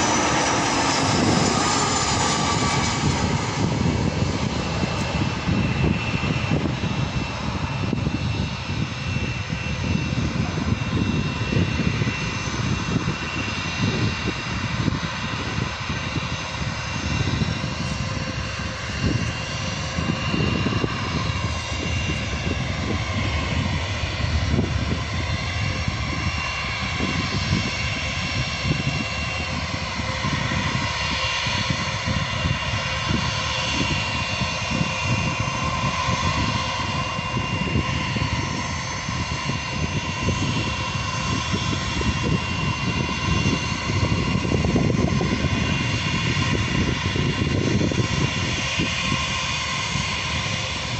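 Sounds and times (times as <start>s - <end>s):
jet engines whining and rumbling: 0.0s - 50.9s.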